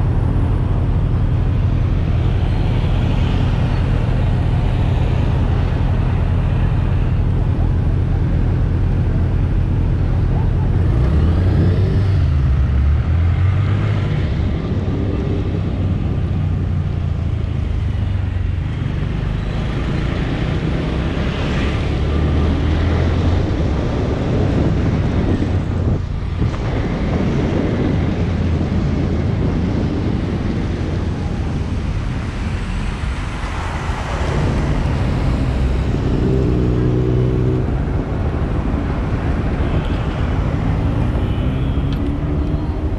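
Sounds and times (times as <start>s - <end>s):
wind and road noise: 0.0s - 42.9s.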